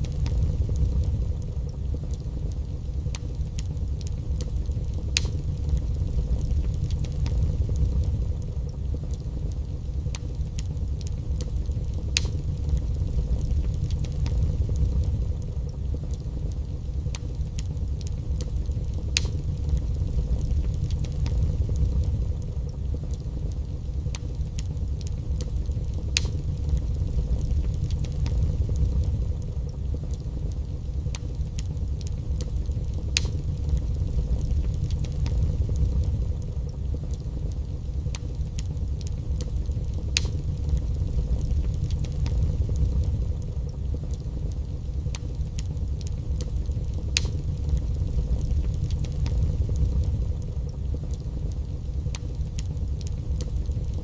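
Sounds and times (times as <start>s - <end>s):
fire crackling and popping: 0.0s - 54.0s
fire flames rumbling: 0.0s - 54.0s.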